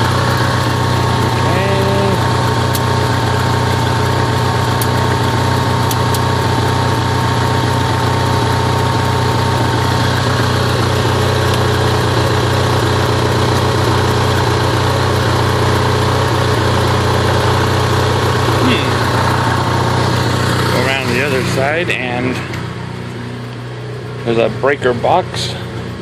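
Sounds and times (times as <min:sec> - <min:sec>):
generator engine running: 0:00.0 - 0:26.0.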